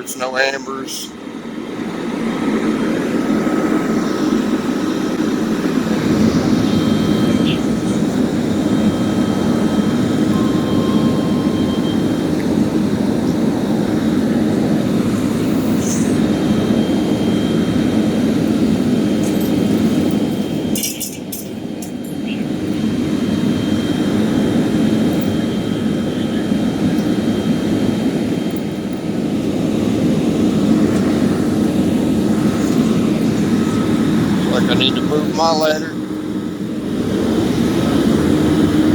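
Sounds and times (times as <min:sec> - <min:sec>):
fire engine pump droning: 0:00.0 - 0:38.9.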